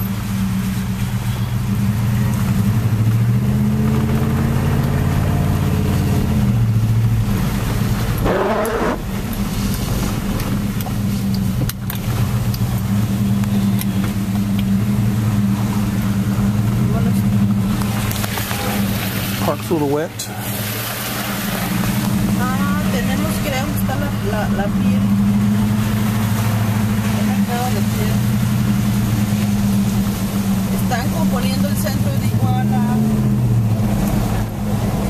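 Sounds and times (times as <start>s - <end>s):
car engine and road hum: 0.0s - 35.0s
windshield wiper squeaking: 3.8s - 35.0s.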